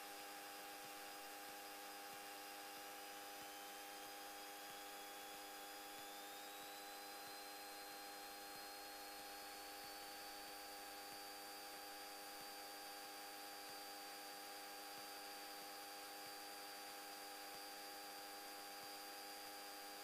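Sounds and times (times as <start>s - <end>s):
electrical hum with high whine: 0.0s - 20.0s.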